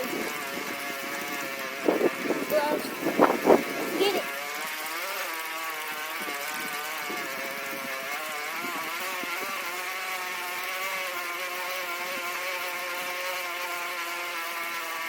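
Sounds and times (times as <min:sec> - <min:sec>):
motor-like drone: 0:00.0 - 0:15.0.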